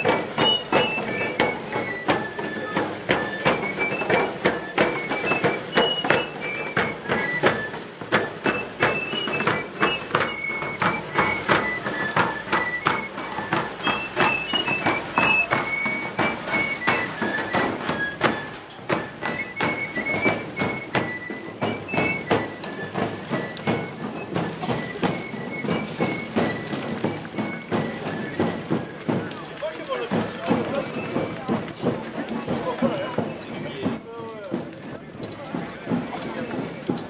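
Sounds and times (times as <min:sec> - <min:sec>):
shrill pipe melody: 0:00.0 - 0:34.0
drum beat: 0:00.0 - 0:37.0.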